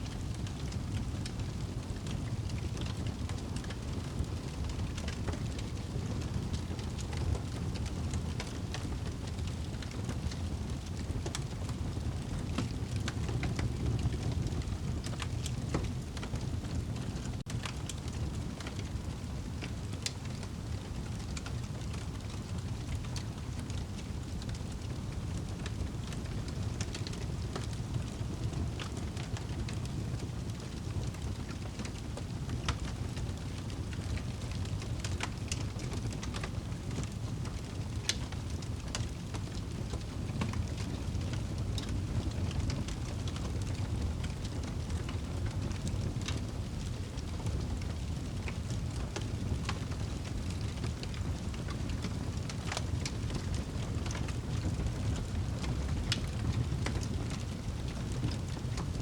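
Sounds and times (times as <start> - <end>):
fire low rumble: 0.0 - 59.0
wood fire crackling and popping: 0.1 - 59.0.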